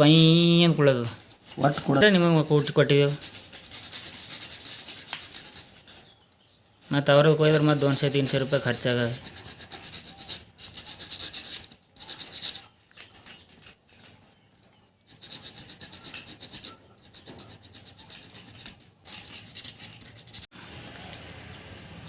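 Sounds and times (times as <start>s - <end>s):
sandpaper rubbing on metal: 0.0s - 6.0s, 7.0s - 14.2s, 15.1s - 20.5s.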